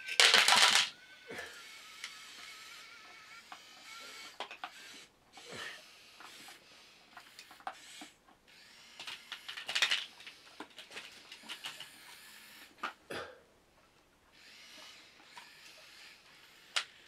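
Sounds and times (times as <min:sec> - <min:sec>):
small electric motors running: 0:00.0 - 0:13.0, 0:14.3 - 0:17.0.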